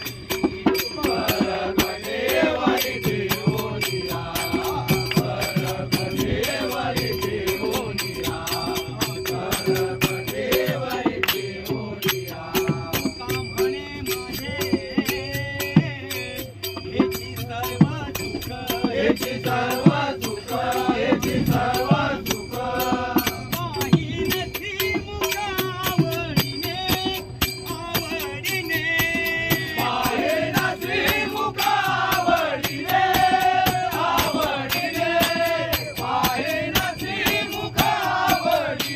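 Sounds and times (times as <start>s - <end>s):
group singing devotional song: 0.0s - 24.9s, 29.0s - 38.9s
small hand cymbals beat: 0.0s - 38.9s.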